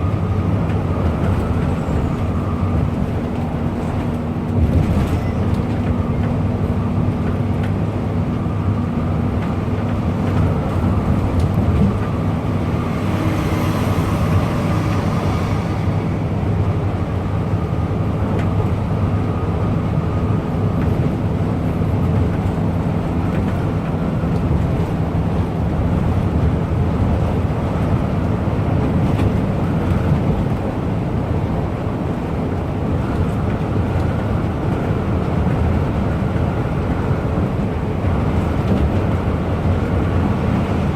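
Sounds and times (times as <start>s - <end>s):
bus engine running: 0.0s - 40.9s
road noise: 0.0s - 40.9s.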